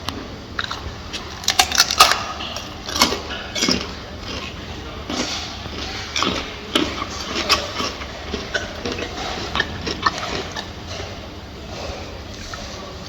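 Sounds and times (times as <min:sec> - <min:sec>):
gorilla chewing with crunches: 0:00.0 - 0:13.0
low background hum: 0:00.0 - 0:13.0.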